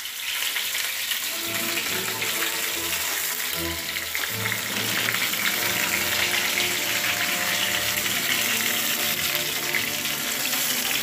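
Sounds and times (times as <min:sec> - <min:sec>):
tomatoes sizzling in oil: 0:00.0 - 0:11.0.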